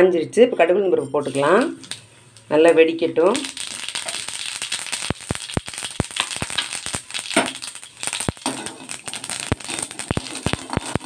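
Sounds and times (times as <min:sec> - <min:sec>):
seeds sizzling and popping in oil: 0:01.2 - 0:11.0.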